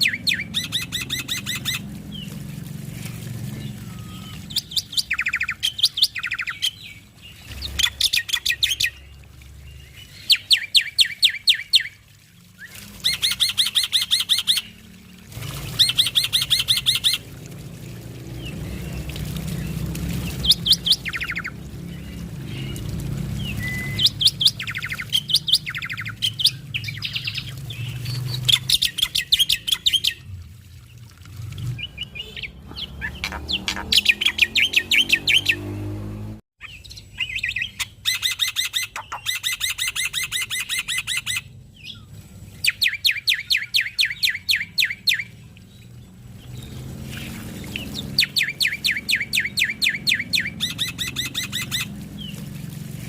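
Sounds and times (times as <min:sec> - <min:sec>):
starling singing chattering notes: 0:00.0 - 0:02.4, 0:03.0 - 0:12.0, 0:12.6 - 0:30.3, 0:31.7 - 0:35.7, 0:36.6 - 0:52.8.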